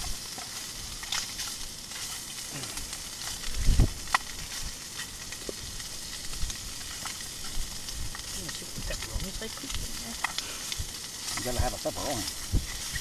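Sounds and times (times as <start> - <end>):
gas stove hissing: 0.0 - 13.0.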